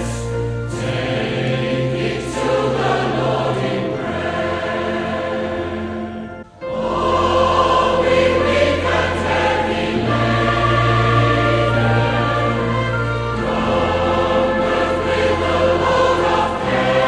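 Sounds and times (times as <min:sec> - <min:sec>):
choir singing a hymn: 0:00.0 - 0:17.0
instrumental accompaniment: 0:00.0 - 0:17.0.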